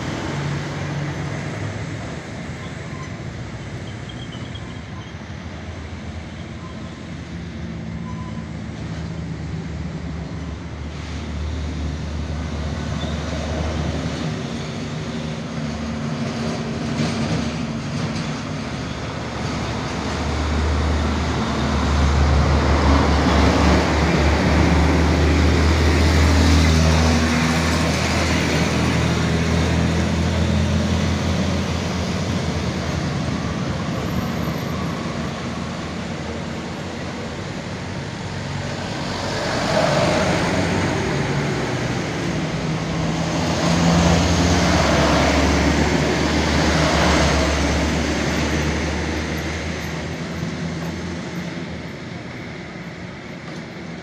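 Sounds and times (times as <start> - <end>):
truck diesel engines droning: 0.0 - 54.0
tyre and road noise: 0.0 - 54.0.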